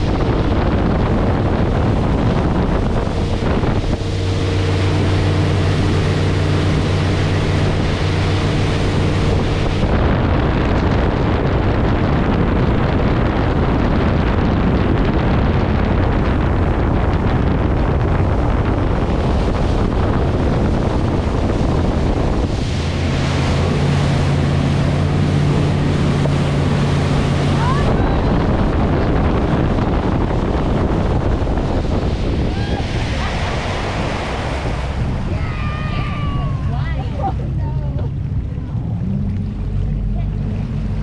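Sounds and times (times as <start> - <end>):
motorboat engine running: 0.0 - 41.0
water rushing: 0.0 - 41.0
wind buffeting microphone: 0.0 - 41.0.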